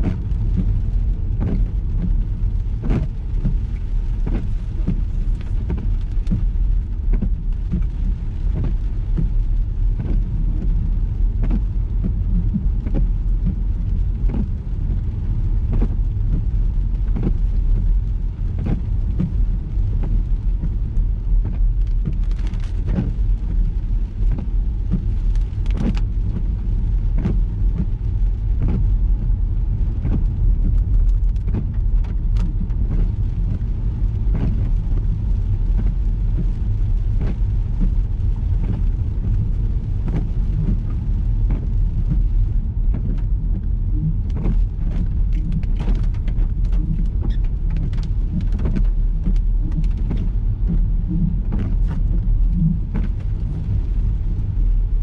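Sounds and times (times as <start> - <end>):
car road and engine rumble: 0.0 - 55.0
raindrops ticking on car: 0.0 - 55.0.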